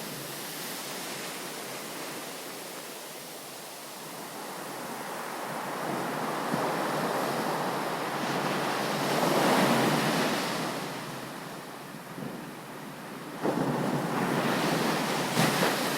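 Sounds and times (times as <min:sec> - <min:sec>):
ocean waves breaking on beach: 0:00.0 - 0:15.9.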